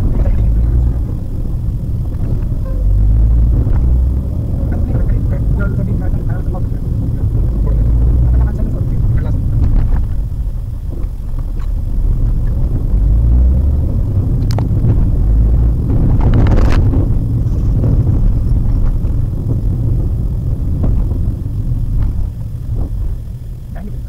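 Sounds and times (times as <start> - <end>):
car cabin road and engine rumble: 0.0 - 24.0.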